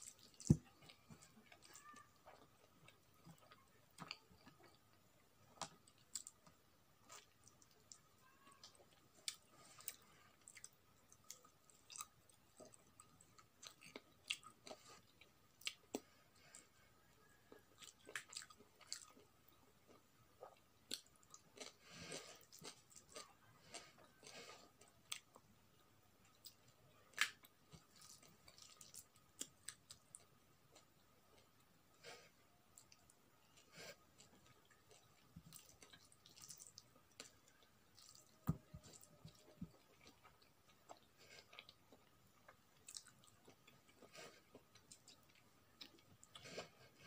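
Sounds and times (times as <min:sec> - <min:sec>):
person chewing food: 0:00.0 - 0:47.0.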